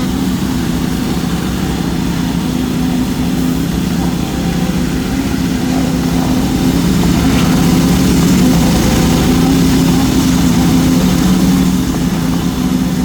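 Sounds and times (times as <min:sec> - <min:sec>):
heavy machinery engine droning: 0:00.0 - 0:13.0.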